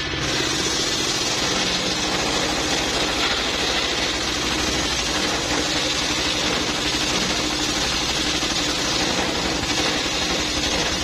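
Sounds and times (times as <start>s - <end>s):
diesel engine chugging: 0.0s - 11.0s
saw blade ripping log: 0.1s - 11.0s.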